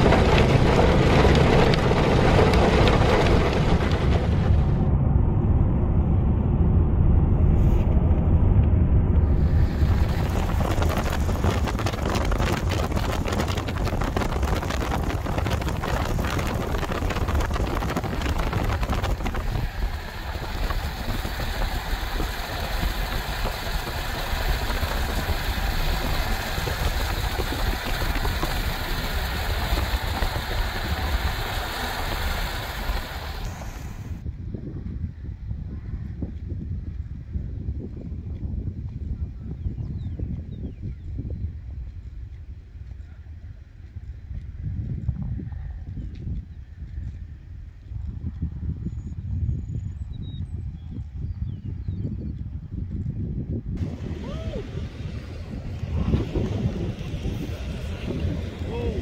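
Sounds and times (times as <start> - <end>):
storm wind on microphone: 0.0 - 59.0.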